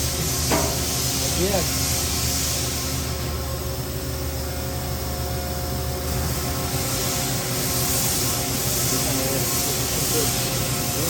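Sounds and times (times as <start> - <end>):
shop machinery hum and hiss: 0.0 - 11.0.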